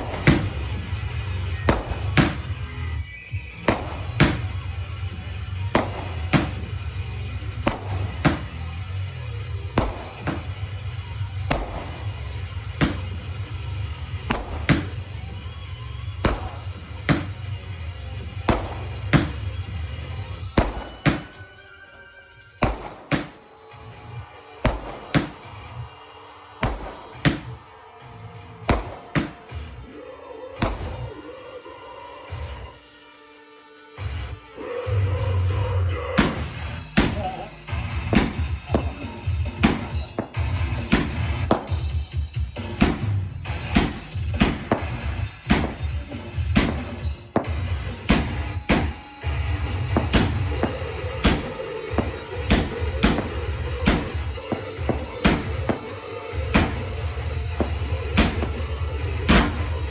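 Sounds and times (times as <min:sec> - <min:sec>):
fireworks banging: 0:00.0 - 0:26.0, 0:26.6 - 0:27.8, 0:28.7 - 0:29.9, 0:30.6 - 0:31.2, 0:36.1 - 0:59.9.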